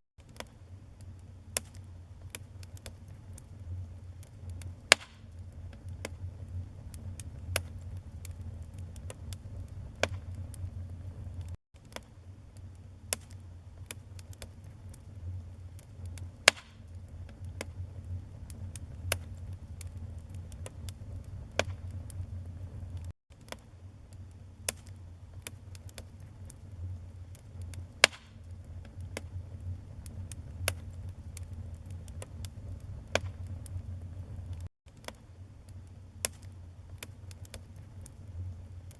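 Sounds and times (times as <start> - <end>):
wood crackling and popping: 0.2 - 38.9
fire flames rumbling: 1.0 - 11.6, 12.6 - 23.1, 24.1 - 34.7, 35.7 - 38.9.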